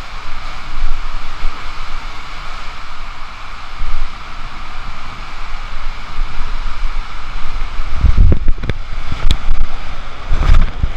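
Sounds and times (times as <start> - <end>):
water rushing down a tube slide: 0.0 - 10.9.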